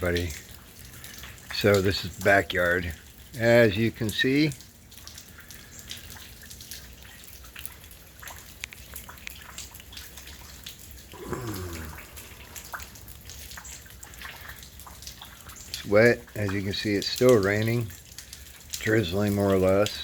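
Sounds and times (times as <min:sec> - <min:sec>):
drizzle: 0:00.0 - 0:20.0
water drops ticking on hard surfaces: 0:00.0 - 0:20.0.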